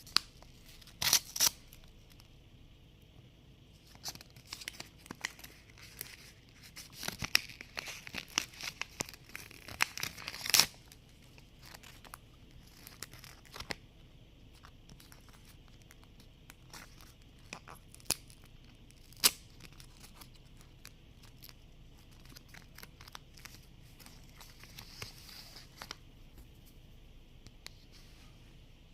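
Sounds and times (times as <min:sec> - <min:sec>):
packaging crinkling and tearing: 0:00.0 - 0:02.3, 0:03.8 - 0:13.8, 0:14.5 - 0:26.0.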